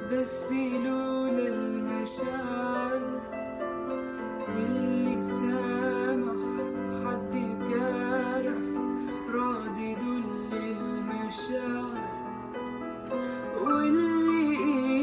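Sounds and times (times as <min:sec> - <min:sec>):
woman singing a slow ballad: 0:00.0 - 0:15.0.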